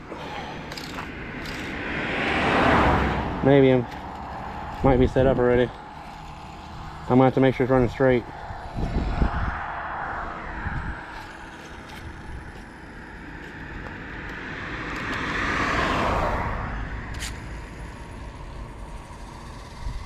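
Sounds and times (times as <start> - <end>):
car driving past: 1.0 - 17.1.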